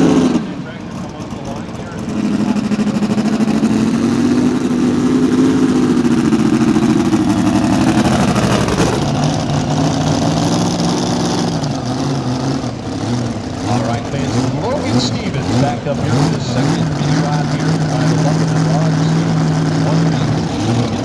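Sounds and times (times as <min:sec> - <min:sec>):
tractor engine revving hard: 0:00.0 - 0:21.0.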